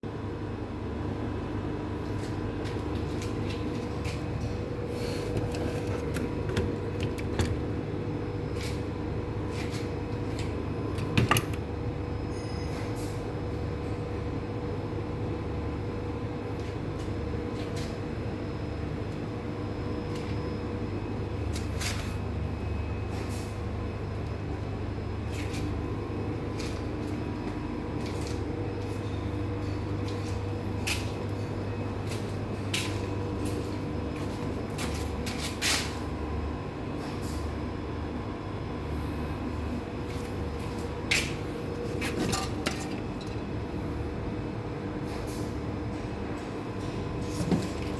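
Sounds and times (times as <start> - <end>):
steady mechanical hum: 0.0 - 47.9.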